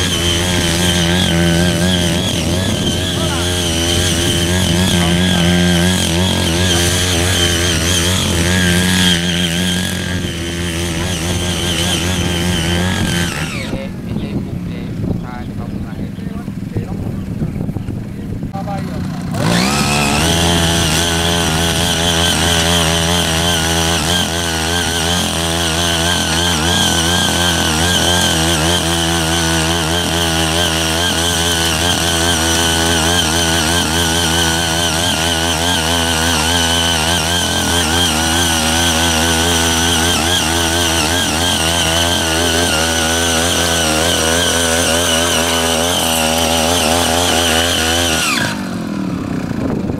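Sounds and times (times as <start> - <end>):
tiller engine running under load: 0.0 - 15.4, 16.4 - 49.9
blades churning soil: 0.0 - 15.6, 18.0 - 49.9.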